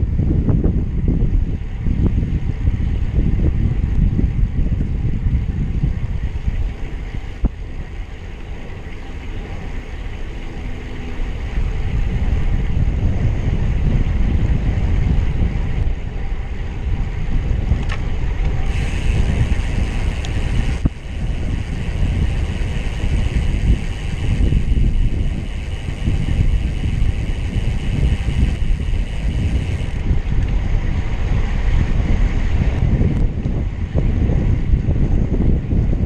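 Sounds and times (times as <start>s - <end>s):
tyre noise on road: 0.0s - 36.0s
wind buffeting microphone: 0.0s - 36.0s.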